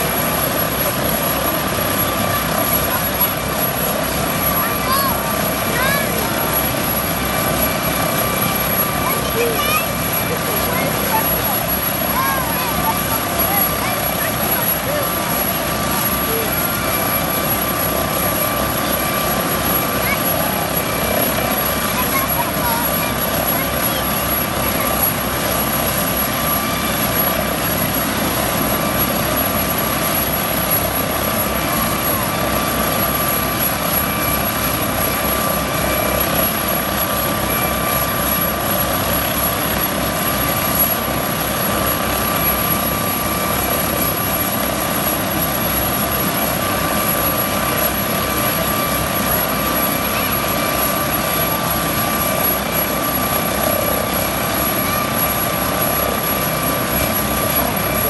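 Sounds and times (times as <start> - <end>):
helicopter rotor beat: 0.0 - 58.0
helicopter turbine whine: 0.0 - 58.0.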